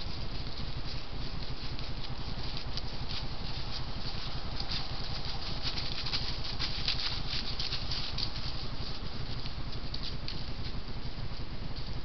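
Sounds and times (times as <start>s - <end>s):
deer footsteps in dry leaves: 0.0s - 12.0s
low hum: 0.0s - 12.0s.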